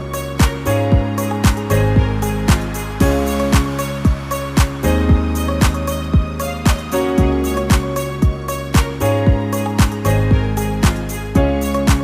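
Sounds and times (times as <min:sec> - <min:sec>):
electronic kick drum: 0:00.0 - 0:12.0.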